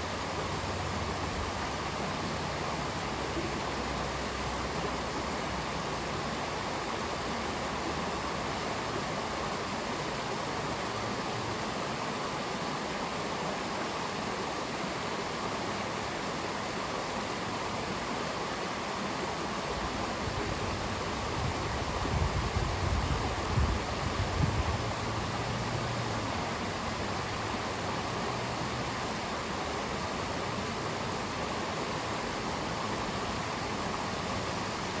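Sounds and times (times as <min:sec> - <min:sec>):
stream rushing over stones: 0:00.0 - 0:35.0.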